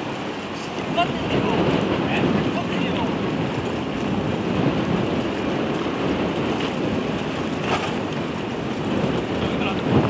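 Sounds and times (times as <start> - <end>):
rough sea: 0.0 - 10.0
wind buffeting microphone: 0.0 - 10.0.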